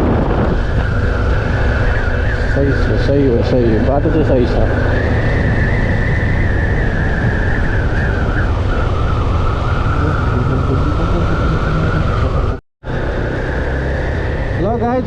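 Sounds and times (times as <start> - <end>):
high whine dropping in pitch: 0.0 - 15.0
motorcycle engine running: 0.0 - 15.0
wind on microphone: 0.0 - 15.0.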